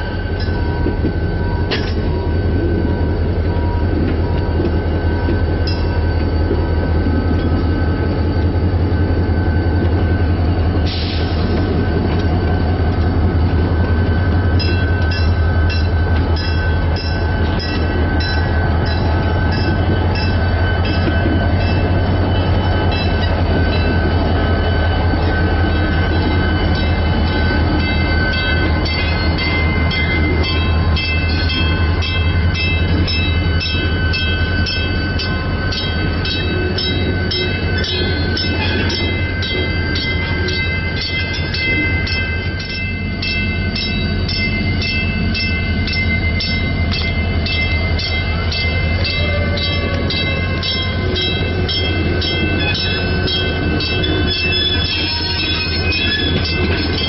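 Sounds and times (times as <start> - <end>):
diesel locomotive engine rumble: 0.0 - 57.0
locomotive bell ringing: 0.0 - 57.0.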